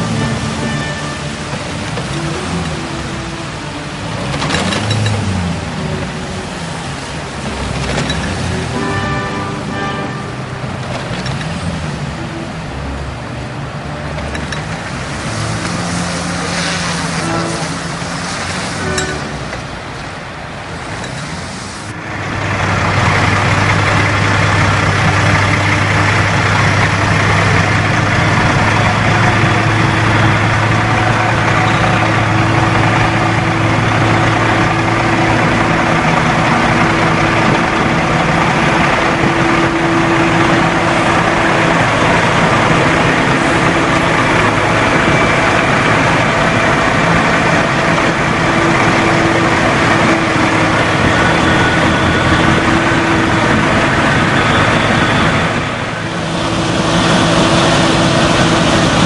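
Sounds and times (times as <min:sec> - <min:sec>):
heavy diesel engines running: 0:00.0 - 0:59.0.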